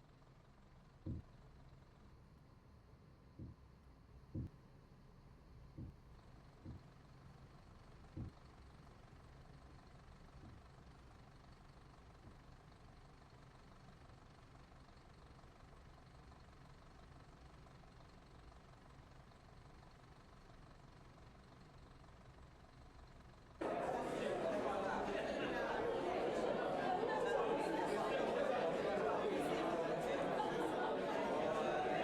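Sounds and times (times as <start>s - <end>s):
bus engine idling: 0.1s - 32.0s.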